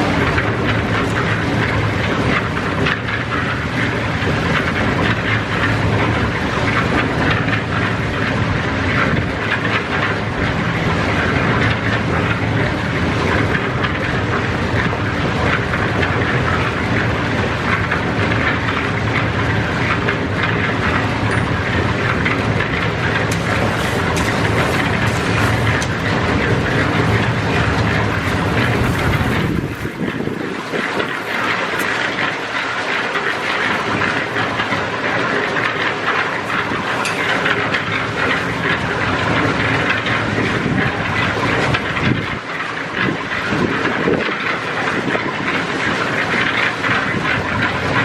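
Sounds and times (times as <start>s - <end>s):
low motor hum: 0.0s - 48.0s
machine clattering rattle: 0.0s - 48.0s.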